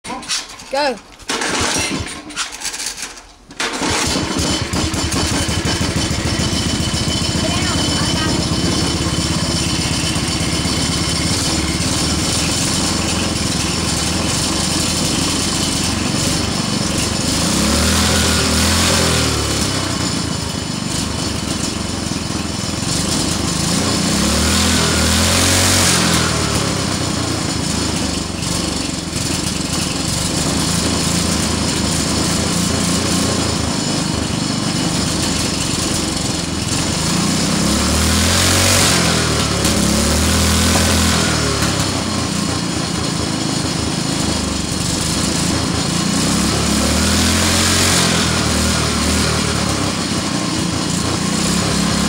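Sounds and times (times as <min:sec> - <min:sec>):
go-kart engine revving: 0:00.0 - 0:52.0.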